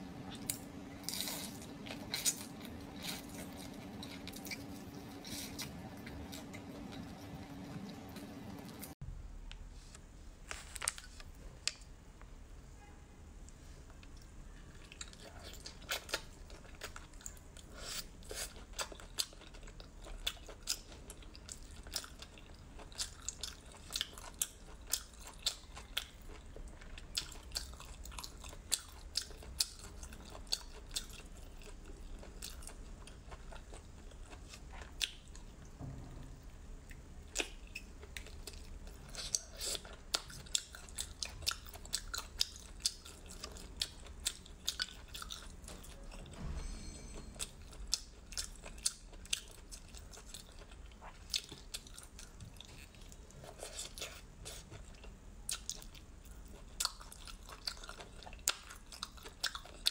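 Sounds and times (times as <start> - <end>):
person chewing shellfish: 0.2 - 9.0, 14.0 - 35.6, 36.9 - 46.4, 47.4 - 59.9.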